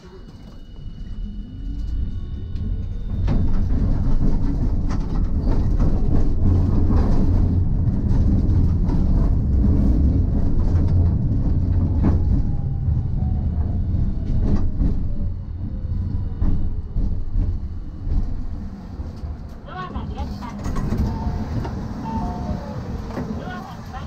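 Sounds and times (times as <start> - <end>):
tram wheels rumbling on rail: 0.0 - 24.0.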